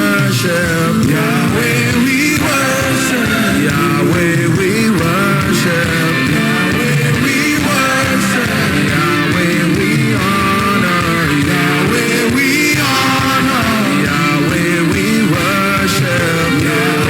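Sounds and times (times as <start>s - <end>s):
band playing: 0.0s - 17.0s
voices singing: 0.0s - 17.0s.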